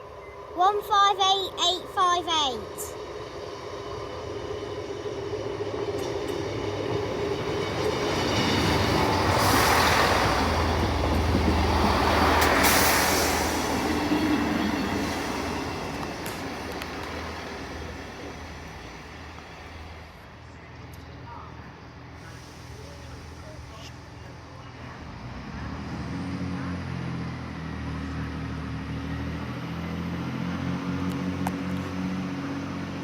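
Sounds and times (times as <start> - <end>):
diesel train engine hum: 0.0 - 33.0
train wheels rumbling: 0.0 - 33.0.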